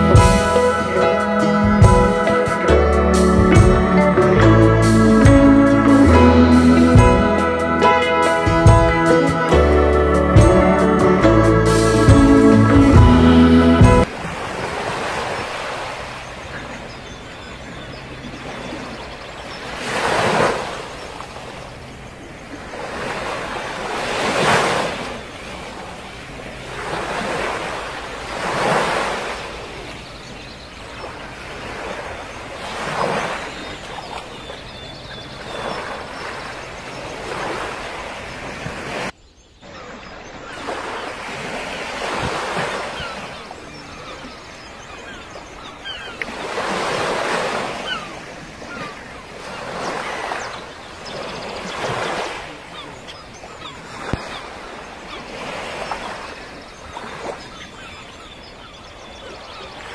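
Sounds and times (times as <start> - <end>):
sea waves washing in: 0.0 - 39.2, 39.8 - 59.9.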